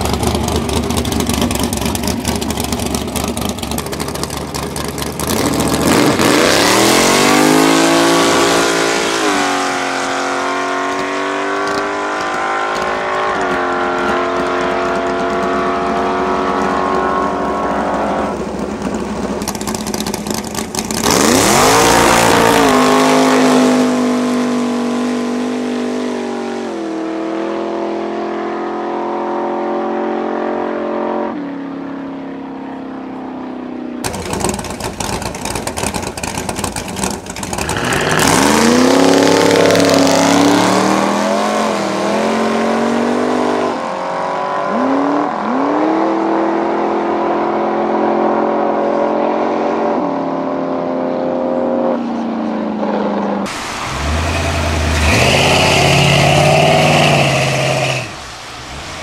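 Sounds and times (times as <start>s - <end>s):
cars accelerating past: 5.2s - 32.8s, 36.7s - 59.0s.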